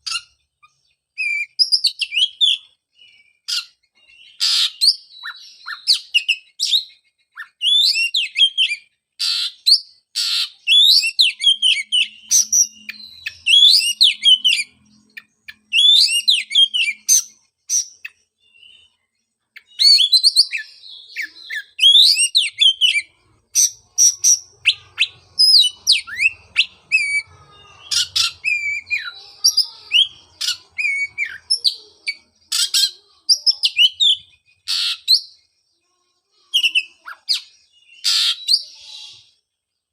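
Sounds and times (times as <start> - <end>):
bird singing whistled phrases: 1.1 - 19.0, 19.6 - 35.4, 36.6 - 39.4.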